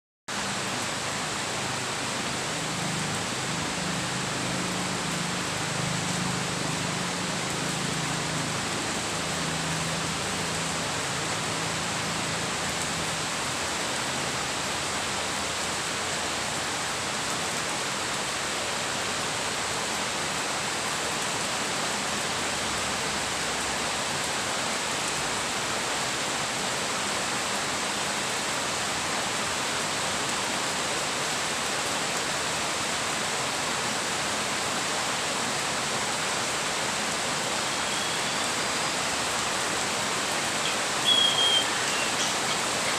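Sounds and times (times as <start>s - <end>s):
steady rain: 0.3s - 42.9s.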